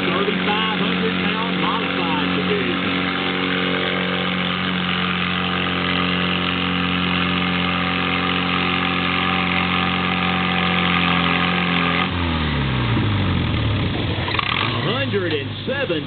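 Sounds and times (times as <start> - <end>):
tractor engine running flat out: 0.0 - 16.0.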